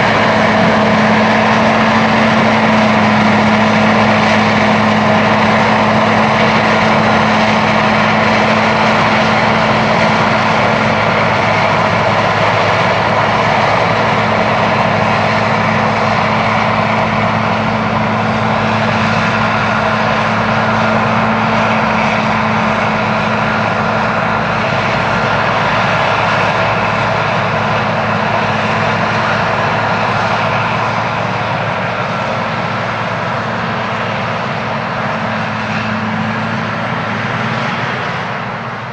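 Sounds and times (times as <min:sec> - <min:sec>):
diesel machinery engine drone: 0:00.0 - 0:38.9.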